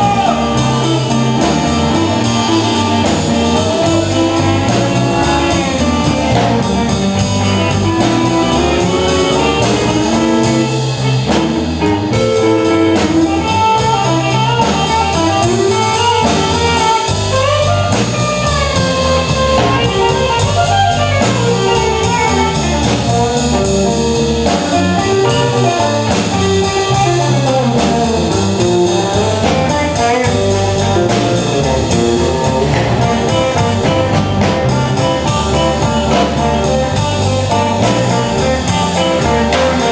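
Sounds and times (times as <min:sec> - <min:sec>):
drum kit steady beat: 0:00.0 - 0:39.9
guitar: 0:00.0 - 0:39.9.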